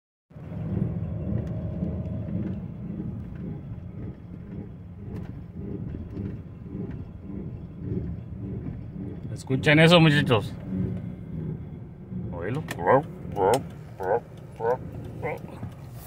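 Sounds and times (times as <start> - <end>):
pulsing front-end running noise: 0.3 - 16.0
road noise: 0.3 - 16.0.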